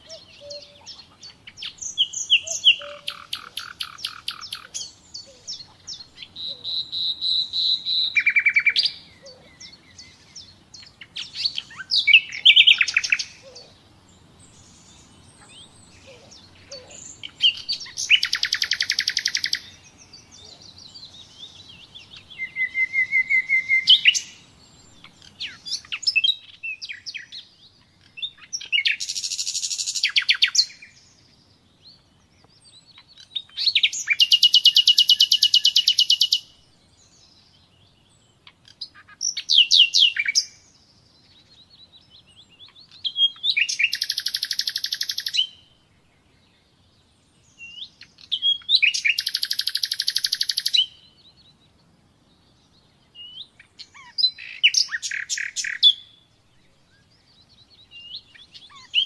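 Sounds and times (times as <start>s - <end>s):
nightingale singing: 0.0s - 59.0s.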